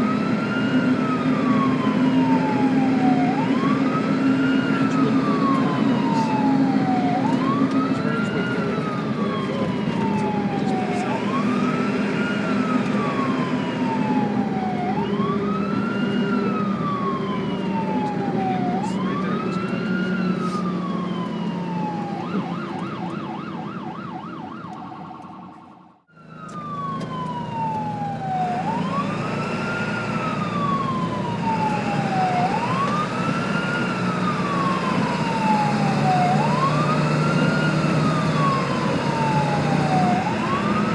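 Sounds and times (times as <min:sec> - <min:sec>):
ambulance siren wailing: 0:00.0 - 0:40.9
low vehicle rumble: 0:00.0 - 0:40.9.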